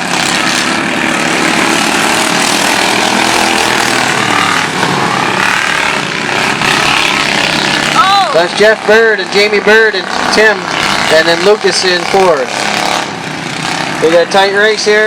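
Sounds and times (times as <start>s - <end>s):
racing lawnmower engines droning: 0.0s - 15.0s.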